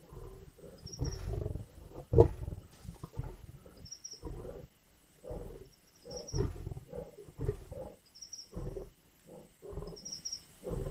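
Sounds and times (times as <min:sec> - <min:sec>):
lion growling and snarling: 0:00.0 - 0:10.9.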